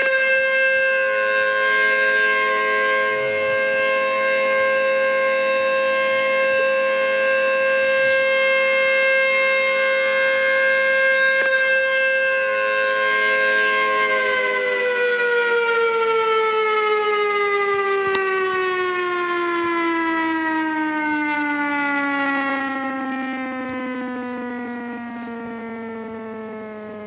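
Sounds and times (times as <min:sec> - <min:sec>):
warning siren steady tone: 0:00.0 - 0:27.0.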